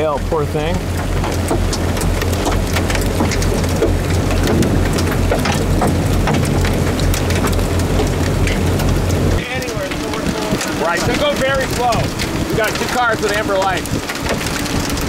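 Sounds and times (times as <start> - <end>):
hailstones striking: 0.0 - 15.0
rain falling: 0.0 - 15.0
steady low rumble: 0.0 - 15.0.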